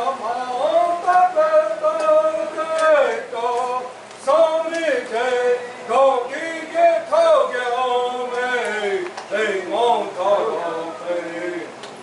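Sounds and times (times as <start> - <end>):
man singing slow melody: 0.0 - 11.8.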